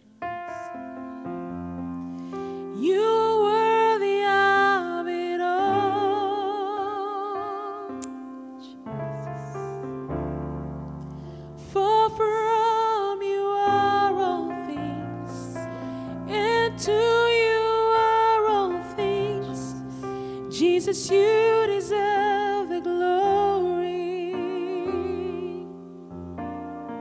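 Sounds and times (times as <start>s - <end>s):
person singing: 2.7s - 10.0s, 11.6s - 26.0s.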